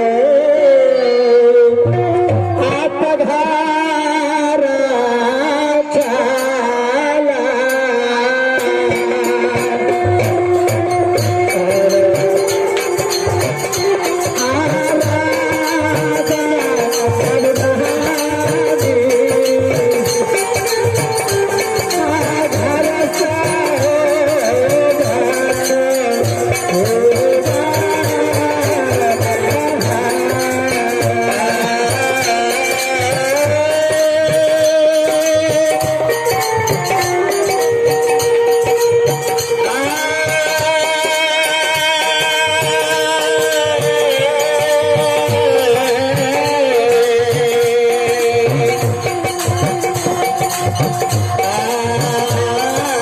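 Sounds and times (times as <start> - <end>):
bright quick percussion: 8.6 - 53.0
steady drum beat: 8.6 - 53.0.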